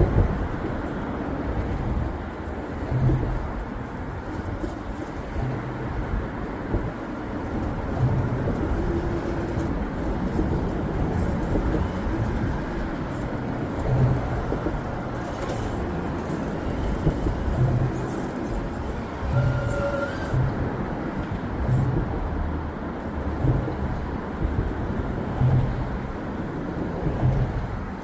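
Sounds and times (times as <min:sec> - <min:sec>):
low rumbling noise: 0:00.0 - 0:28.0.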